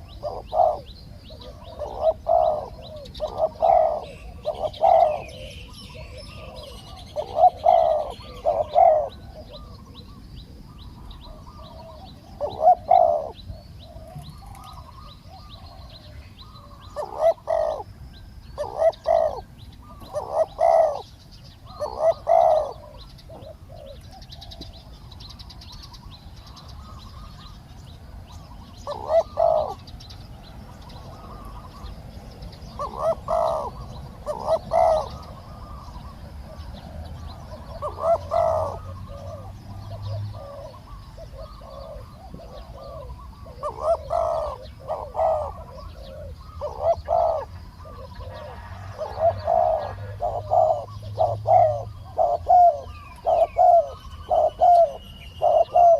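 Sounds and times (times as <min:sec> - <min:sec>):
doves cooing: 0:00.0 - 0:55.9
small birds chirping: 0:00.0 - 0:55.9.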